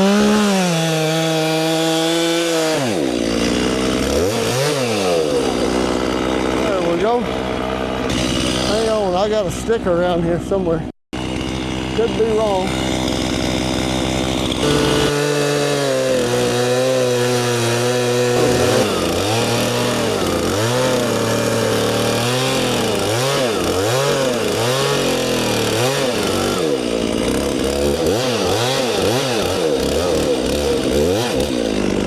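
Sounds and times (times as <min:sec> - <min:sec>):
chainsaw cutting log: 0:00.0 - 0:09.2, 0:11.2 - 0:32.0.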